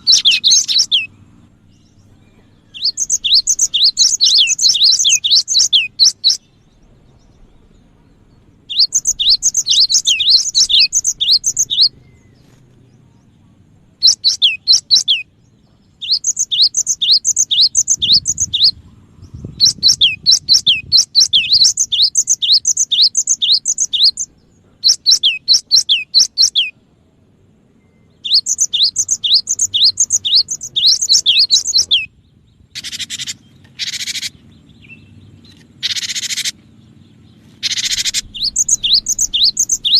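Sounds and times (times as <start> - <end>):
bird singing whistled notes: 0.0 - 13.4, 14.0 - 26.8, 27.7 - 39.9.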